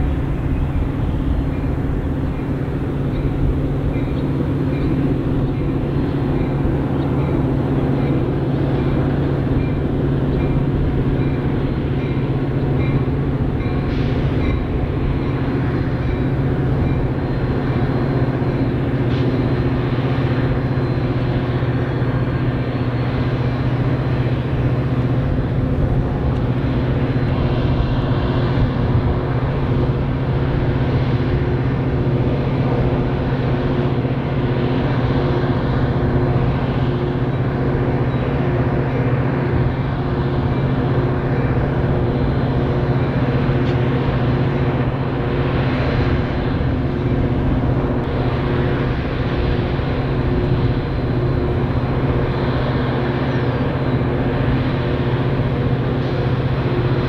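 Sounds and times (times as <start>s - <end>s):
diesel locomotive droning: 0.0s - 57.0s.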